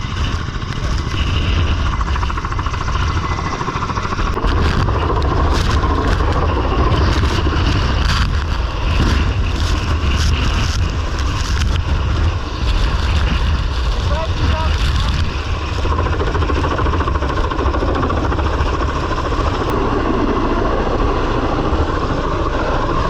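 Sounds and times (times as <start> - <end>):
wind rushing: 0.0 - 23.0.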